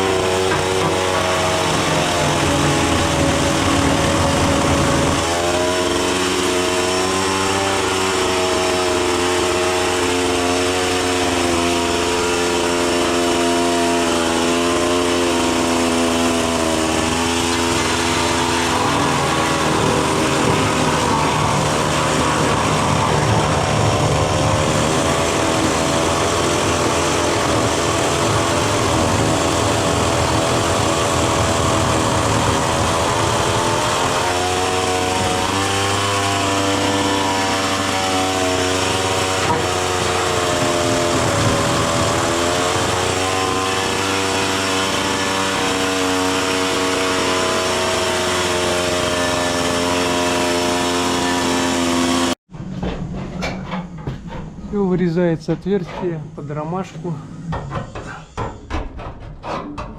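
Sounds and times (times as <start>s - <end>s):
power saw cutting: 0.0s - 52.4s.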